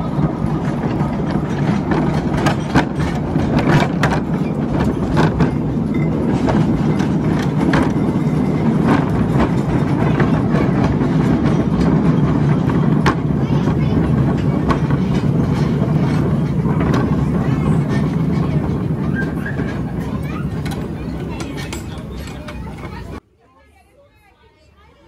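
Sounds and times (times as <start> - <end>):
train engine hum: 0.0 - 23.2
wheels clicking over rail joints: 0.0 - 23.2.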